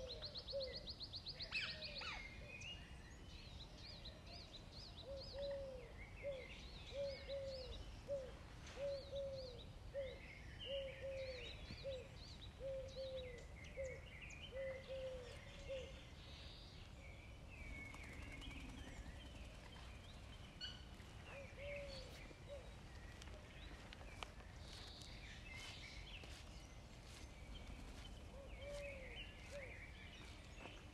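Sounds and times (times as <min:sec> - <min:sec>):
bird chirping: 0:00.0 - 0:30.9.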